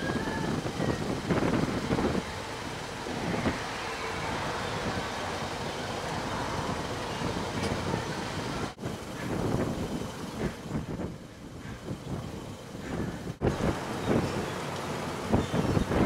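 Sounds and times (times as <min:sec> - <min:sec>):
steady rumbling background noise: 0:00.0 - 0:16.0.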